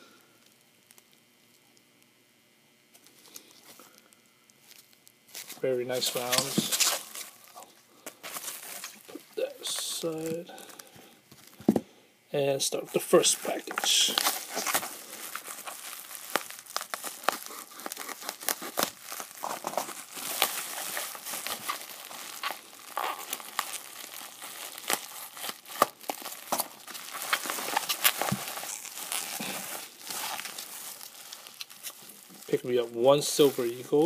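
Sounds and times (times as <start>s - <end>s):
bubble wrap crinkling: 0.0s - 2.1s, 2.9s - 11.8s, 12.6s - 34.0s.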